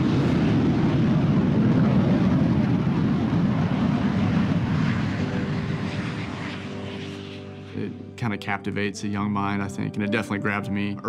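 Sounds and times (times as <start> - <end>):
airplane engine rumble: 0.0 - 11.0.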